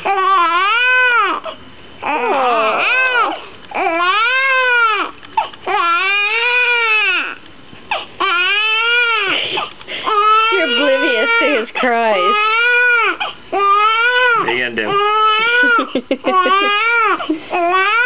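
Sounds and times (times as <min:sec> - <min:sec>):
newborn baby crying: 0:00.0 - 0:18.0.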